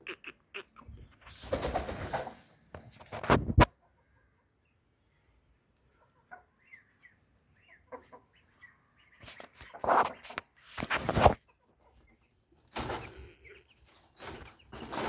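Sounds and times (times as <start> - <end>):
chickens clucking: 0.0 - 4.8, 5.5 - 15.0.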